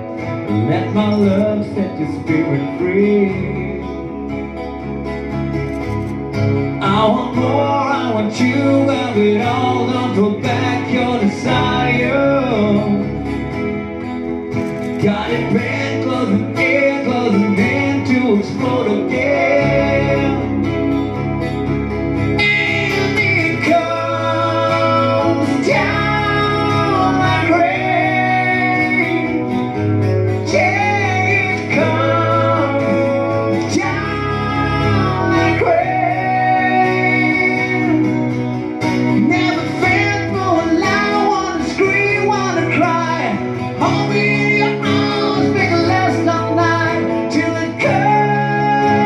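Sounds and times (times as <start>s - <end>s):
man singing: 0.0s - 4.6s, 6.8s - 13.5s, 14.8s - 21.2s, 22.3s - 49.0s
acoustic guitars strumming: 0.0s - 49.0s.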